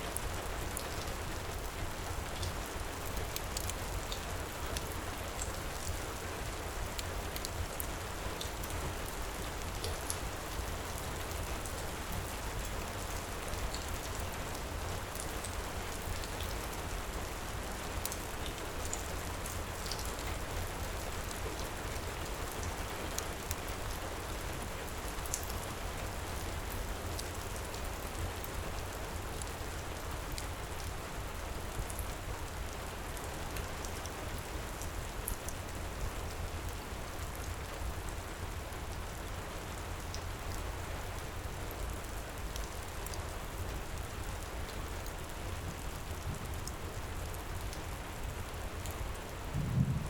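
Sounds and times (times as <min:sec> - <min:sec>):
heavy rain falling: 0:08.0 - 0:50.0.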